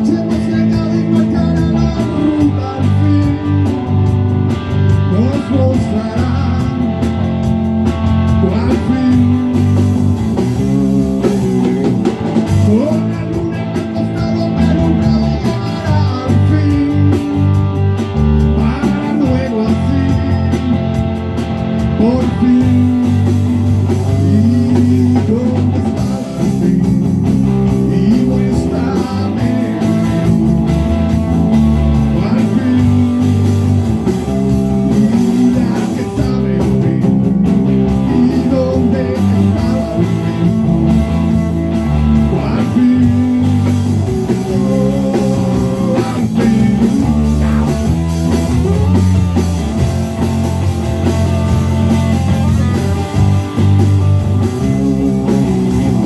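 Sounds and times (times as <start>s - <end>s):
band playing a song: 0.0s - 56.0s
guitar: 0.0s - 56.0s.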